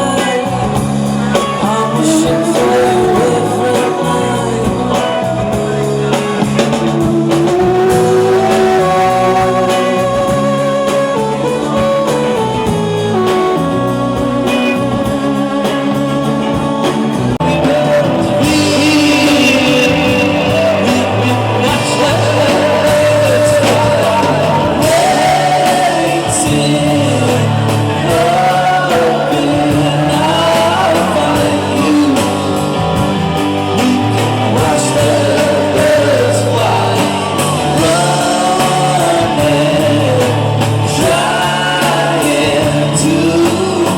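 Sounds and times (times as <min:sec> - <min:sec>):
person singing: 0:00.0 - 0:43.9
rock music with guitar: 0:00.0 - 0:43.9.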